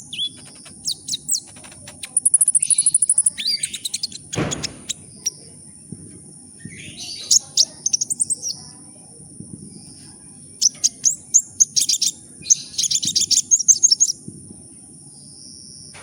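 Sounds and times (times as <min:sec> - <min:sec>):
sunbird chirping and trilling: 0:00.0 - 0:05.8, 0:06.4 - 0:09.0, 0:09.7 - 0:14.2.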